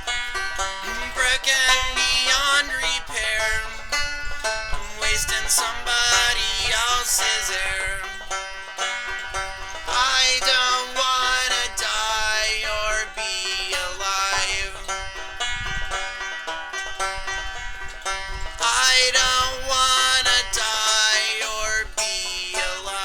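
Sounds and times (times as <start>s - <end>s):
acoustic strings strumming chords: 0.0s - 23.0s.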